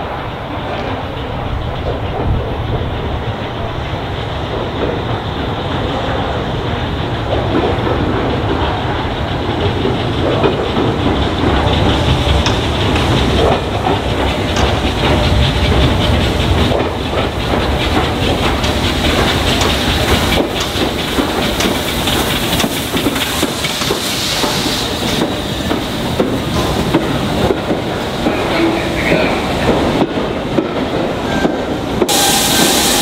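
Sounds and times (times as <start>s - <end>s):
steam locomotive running slowly: 0.0s - 33.0s
wheels clicking over rail joints: 0.6s - 33.0s.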